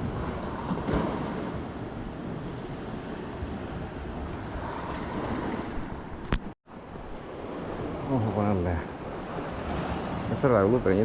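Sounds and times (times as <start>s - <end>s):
sea washing at the shore: 0.0s - 11.0s.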